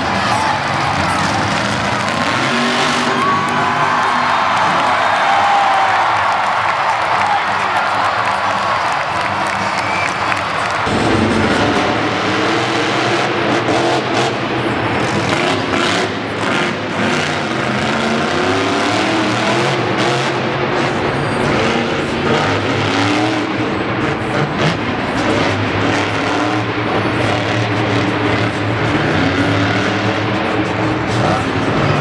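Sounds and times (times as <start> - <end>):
monster truck engines revving: 0.0 - 32.0.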